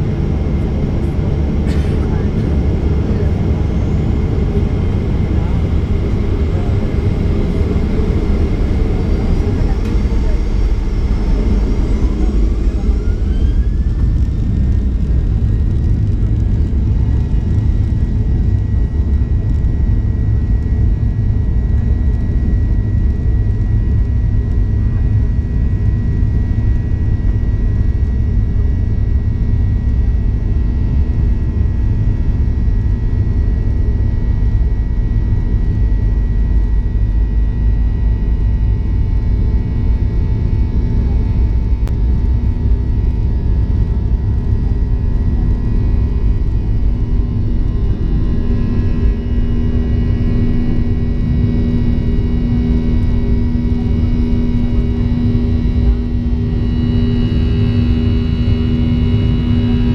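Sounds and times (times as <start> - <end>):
jet engine whine: 0.0 - 59.9
jet engines rumbling in cabin: 0.0 - 59.9.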